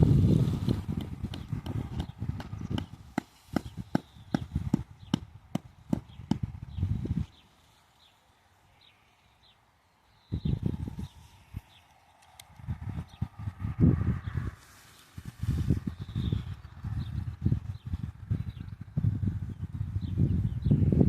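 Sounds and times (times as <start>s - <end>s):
wind buffeting microphone: 0.0s - 7.4s, 10.2s - 21.0s.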